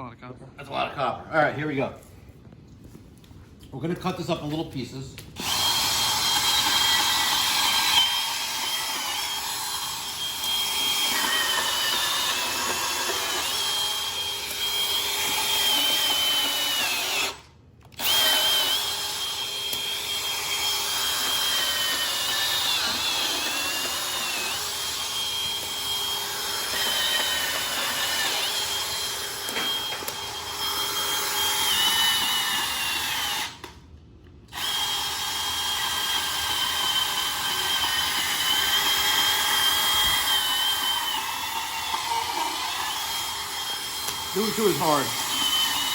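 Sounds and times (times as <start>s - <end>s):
bandsaw cutting wire: 5.4s - 33.8s, 34.5s - 45.9s.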